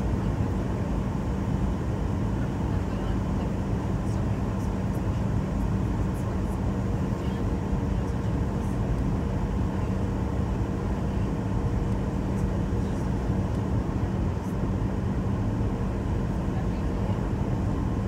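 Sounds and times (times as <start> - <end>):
airplane cabin engine rush: 0.0 - 18.0
steady low hum: 0.0 - 18.0.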